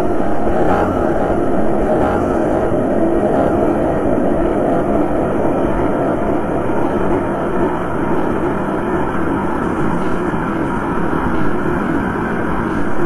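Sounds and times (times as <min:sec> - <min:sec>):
steady rumbling noise drone: 0:00.0 - 0:13.0.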